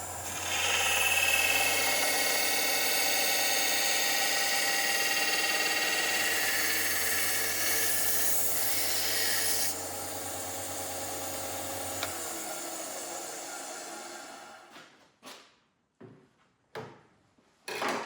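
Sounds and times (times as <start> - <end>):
electric grinder motor: 0.0 - 14.7.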